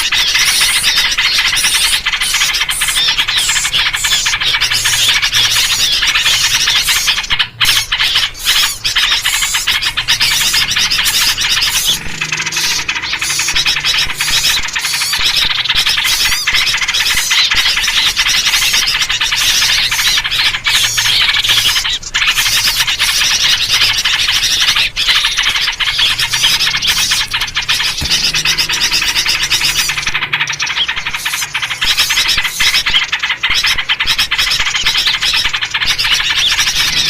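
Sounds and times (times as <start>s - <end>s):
bulbul calls: 0.0s - 37.0s
chorus of small birds chattering: 0.0s - 37.0s.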